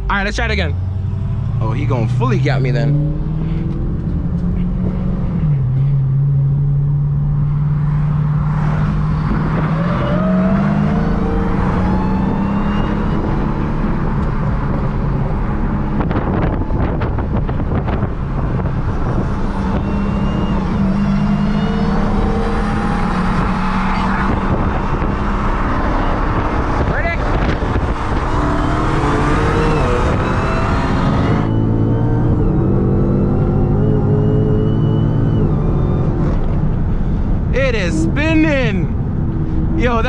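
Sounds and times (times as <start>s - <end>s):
car engine at full throttle: 0.0s - 40.0s.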